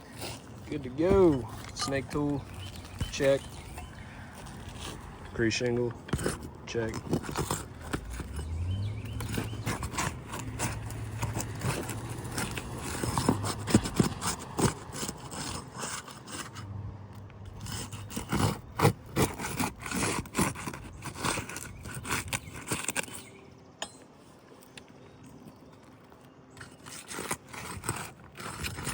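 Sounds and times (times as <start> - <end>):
roof shingles scraping and knocking: 0.0 - 16.6, 17.5 - 23.3, 25.4 - 28.9.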